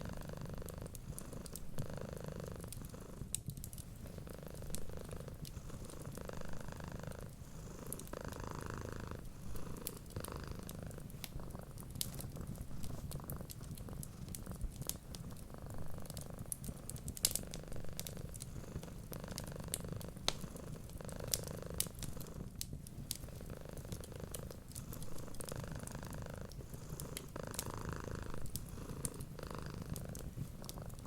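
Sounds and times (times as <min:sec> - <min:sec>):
cat purring: 0:00.0 - 0:31.0
wood fire crackling: 0:00.0 - 0:31.0.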